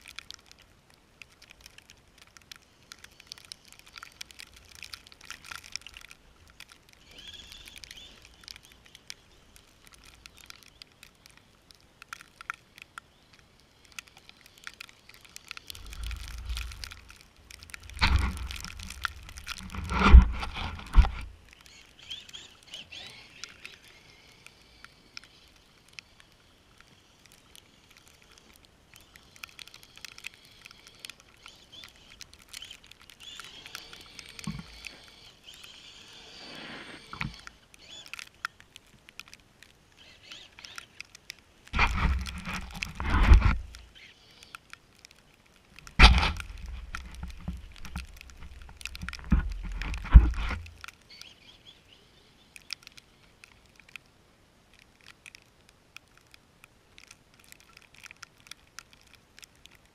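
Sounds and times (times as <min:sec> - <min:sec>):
light ticks: 0:00.0 - 0:59.9.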